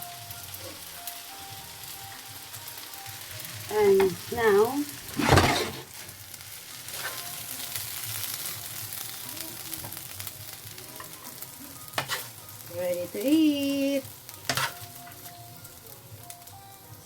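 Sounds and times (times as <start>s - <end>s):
food sizzling in a hot pan: 0.0s - 17.0s.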